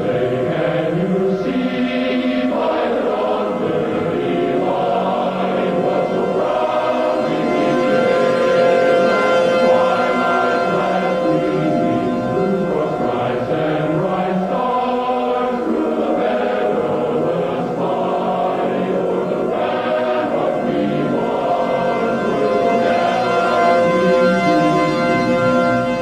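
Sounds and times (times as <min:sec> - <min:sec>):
choir singing sustained notes: 0:00.0 - 0:26.0.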